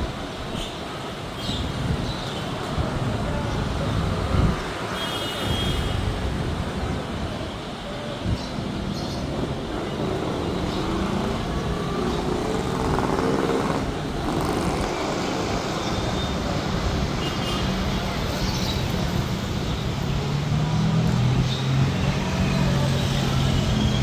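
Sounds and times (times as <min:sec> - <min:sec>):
passing cars and motorbikes: 0:00.0 - 0:24.0.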